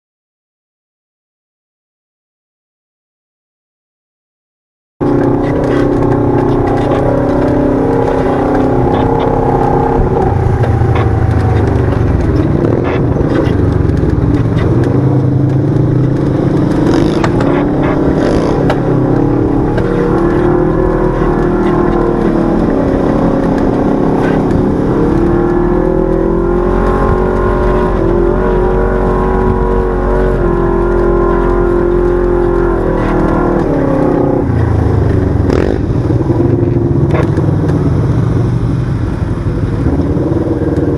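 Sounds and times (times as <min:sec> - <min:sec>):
utility vehicle engine revving: 0:05.0 - 0:40.9.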